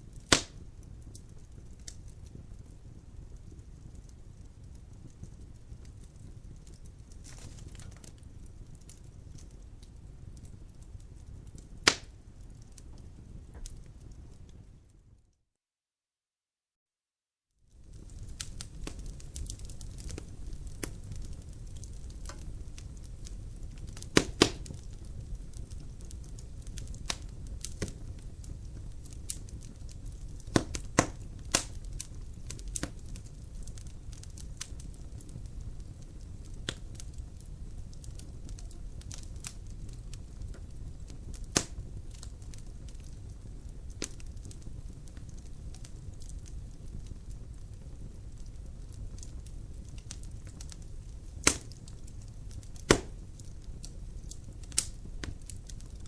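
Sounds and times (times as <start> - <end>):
sharp pops of fire: 0.0 - 14.5, 17.8 - 56.0
fire rumbling: 0.0 - 15.1, 17.7 - 56.0.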